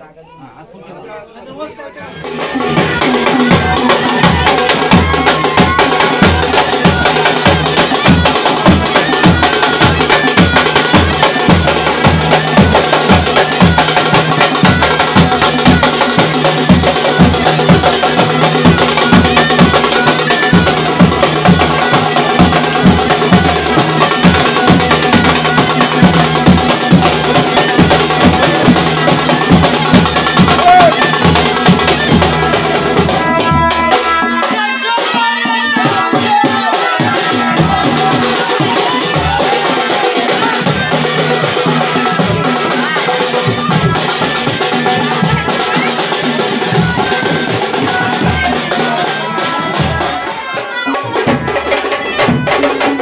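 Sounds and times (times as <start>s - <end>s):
drums beating fast rhythm: 1.4s - 53.0s.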